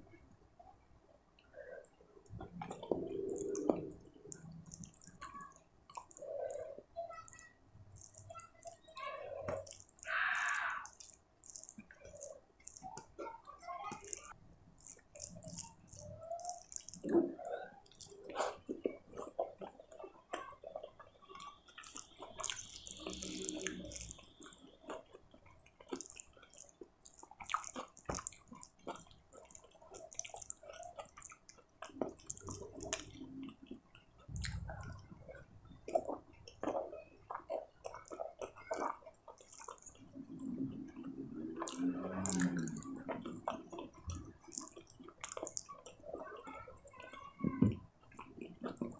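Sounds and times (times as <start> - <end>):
wet chewing: 1.4 - 48.9
lip smacks: 2.2 - 46.2
wet squelching of food by hand: 2.3 - 48.9.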